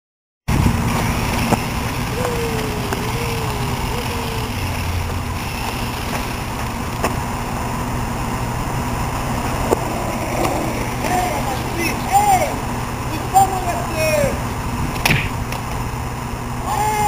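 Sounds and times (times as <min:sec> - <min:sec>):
faint wavering whine: 0:00.5 - 0:14.8
toy car driving on asphalt: 0:00.6 - 0:14.4.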